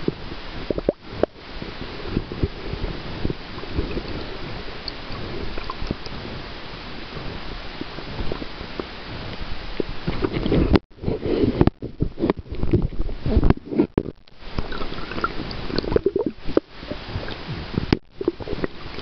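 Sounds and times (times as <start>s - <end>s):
water gurgling and sloshing: 0.0s - 19.0s.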